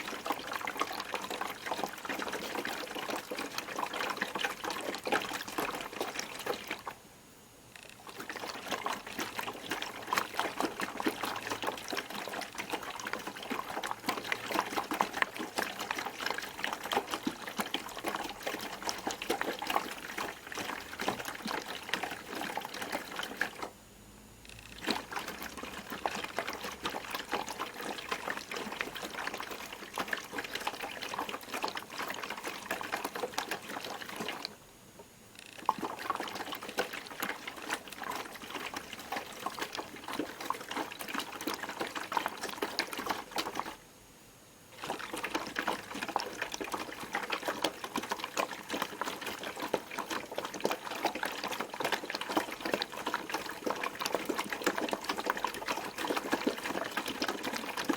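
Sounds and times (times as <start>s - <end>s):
washing machine laundry churning: 0.0s - 7.0s, 7.8s - 23.8s, 24.6s - 43.8s, 44.7s - 57.9s.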